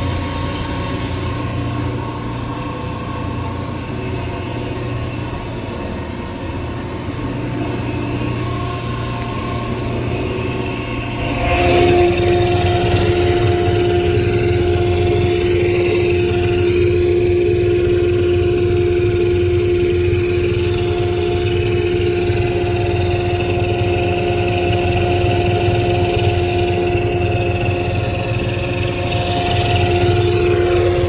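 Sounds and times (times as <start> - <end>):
electric machinery humming and whining: 0.0 - 31.0.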